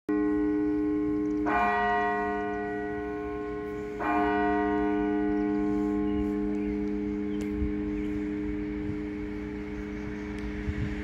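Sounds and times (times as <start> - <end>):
tower bell tolling: 0.1 - 11.0.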